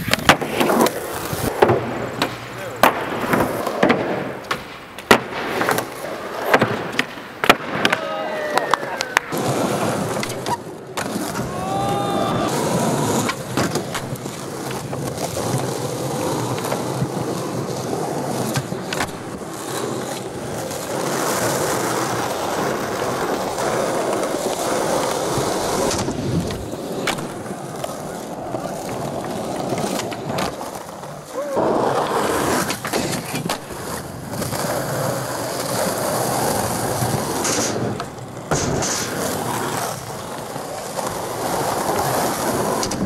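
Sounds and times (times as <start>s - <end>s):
skateboard clacks: 0.0s - 43.0s
skateboard wheels rolling on concrete: 0.0s - 43.0s.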